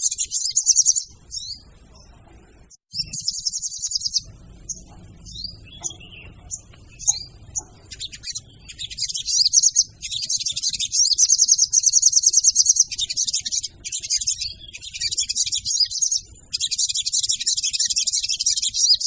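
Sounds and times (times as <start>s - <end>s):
bird chattering trill: 0.0s - 1.7s, 2.9s - 19.0s.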